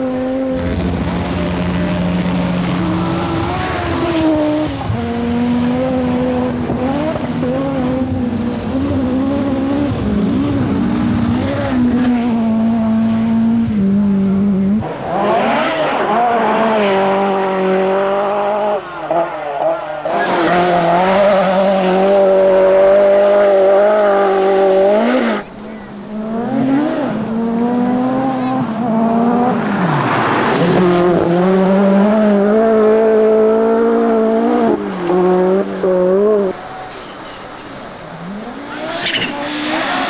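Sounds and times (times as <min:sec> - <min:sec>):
rally car engines revving high: 0:00.0 - 0:40.0.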